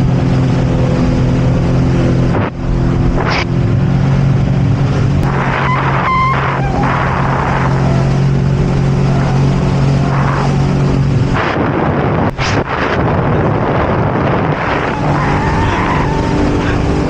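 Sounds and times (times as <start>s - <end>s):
jet ski engine running: 0.0s - 17.0s
rushing wind and water: 0.0s - 17.0s.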